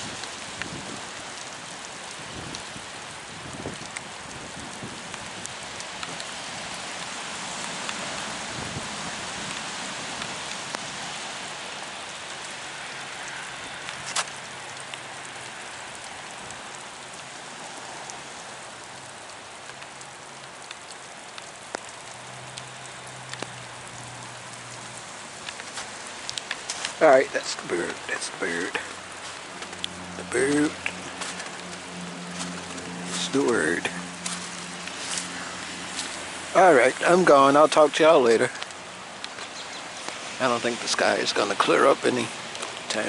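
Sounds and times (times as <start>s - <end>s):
raindrops ticking: 0.0s - 43.0s
steady rain falling: 0.0s - 43.0s.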